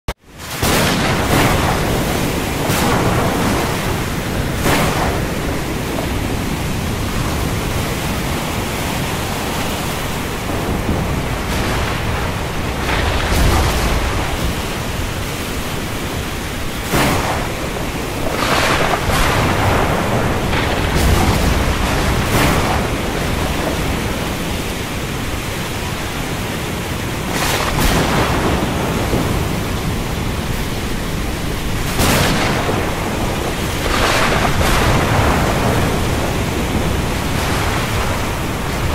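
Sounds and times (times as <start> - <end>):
heavy rain hiss: 0.2 - 38.9
thunder rumbling: 0.3 - 38.9
thunder cracks: 0.4 - 38.9.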